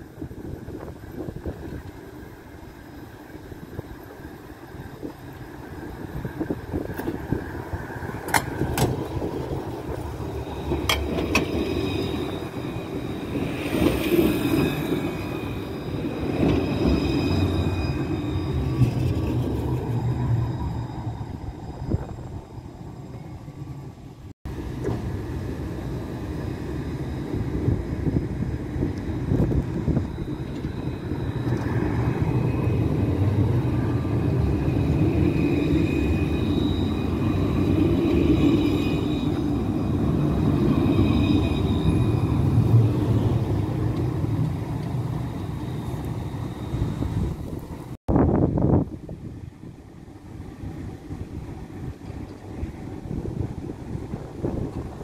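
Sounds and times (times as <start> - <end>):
tram rumbling on rails: 0.0 - 55.0.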